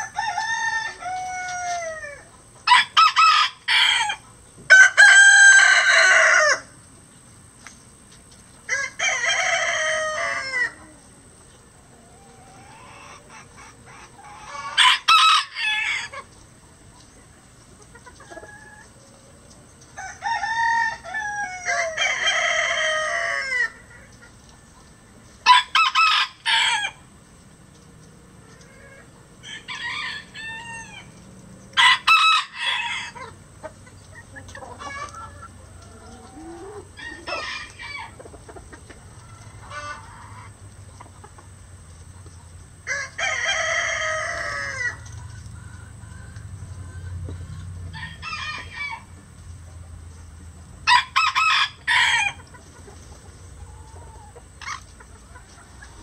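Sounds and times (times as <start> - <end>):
roosters crowing: 0.0 - 7.2, 8.5 - 27.3, 28.1 - 56.0.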